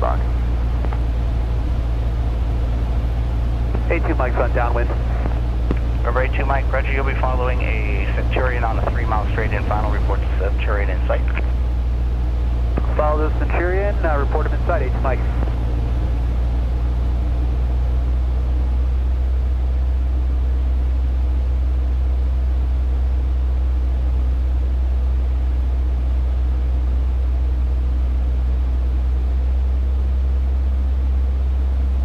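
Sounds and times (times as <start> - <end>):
airplane engine droning: 0.0 - 32.0.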